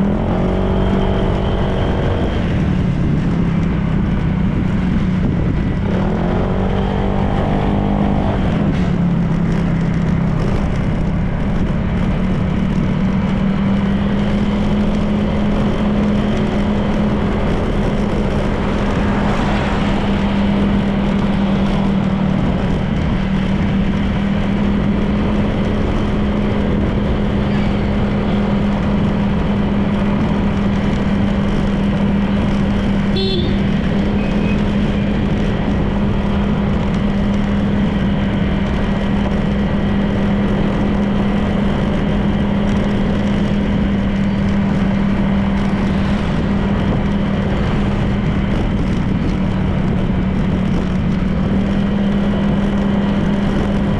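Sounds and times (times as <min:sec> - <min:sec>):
road noise: 0:00.0 - 0:53.9
scooter engine cruising: 0:00.0 - 0:53.9.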